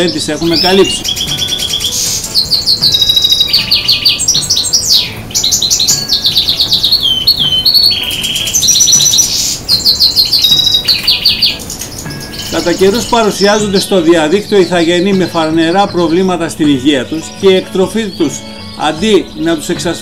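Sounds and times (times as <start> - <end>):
goldfinch singing twittering song: 0.0 - 20.0.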